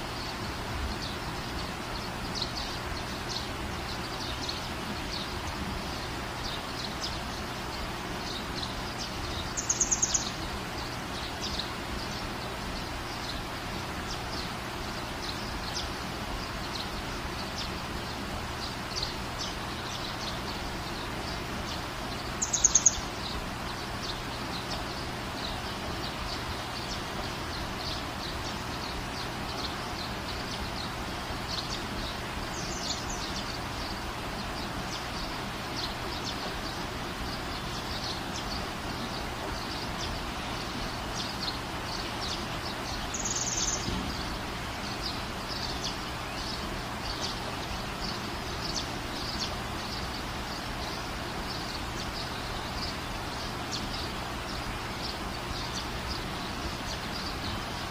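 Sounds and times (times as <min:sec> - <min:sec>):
small birds chirping: 0:00.0 - 0:57.9
steady background hiss: 0:00.0 - 0:57.9.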